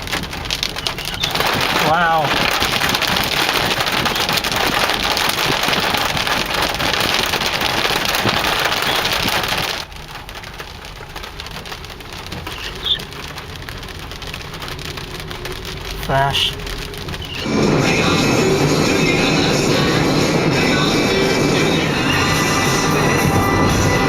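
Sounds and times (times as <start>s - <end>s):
heavy rain on hard surface: 0.0s - 24.0s.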